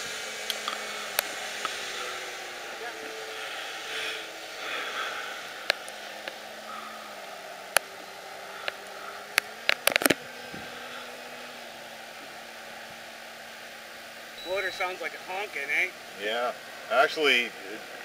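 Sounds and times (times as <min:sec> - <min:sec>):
electric motor and propeller: 0:00.0 - 0:18.0.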